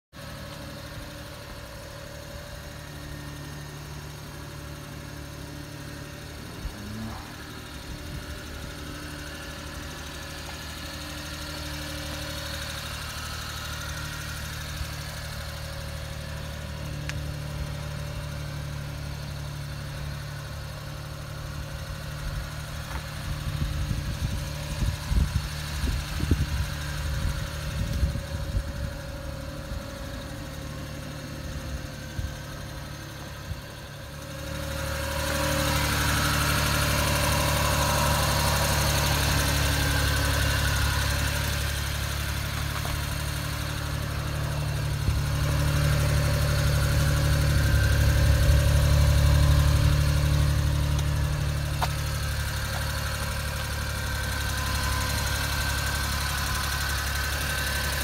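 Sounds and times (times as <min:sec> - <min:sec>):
truck engine idling: 0:00.1 - 0:58.0.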